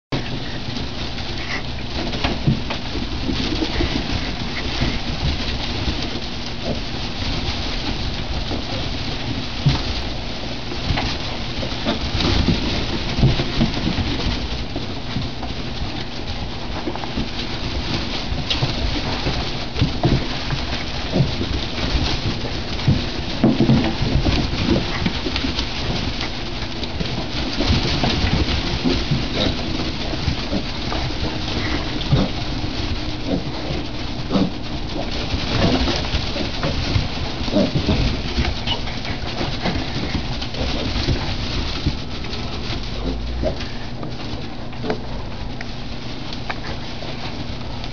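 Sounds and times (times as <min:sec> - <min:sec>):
trotters scuffling through wood shavings: 0:00.1 - 0:47.9
piglets grunting: 0:00.2 - 0:45.6.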